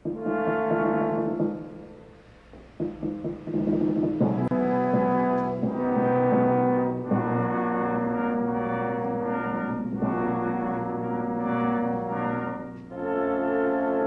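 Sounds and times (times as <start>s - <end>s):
pipe organ chords: 0.0s - 2.4s, 4.4s - 14.0s.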